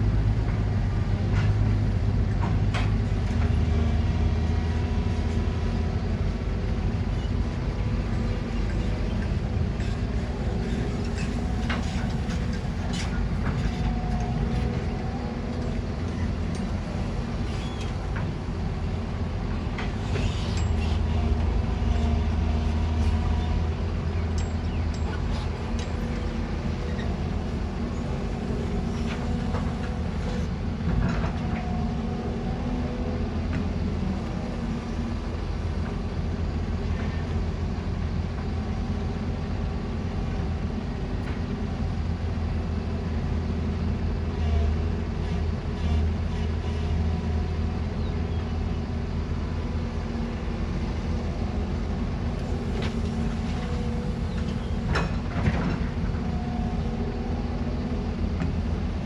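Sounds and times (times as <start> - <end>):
heavy machinery engine rumble: 0.0 - 59.0.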